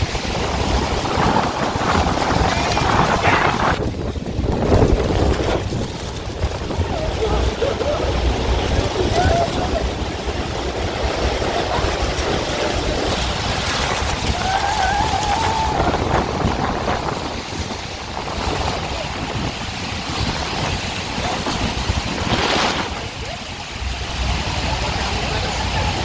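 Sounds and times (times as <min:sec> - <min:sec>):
churning water: 0:00.0 - 0:26.0
waterfall roaring: 0:00.0 - 0:26.0
wind buffeting the microphone: 0:00.0 - 0:26.0.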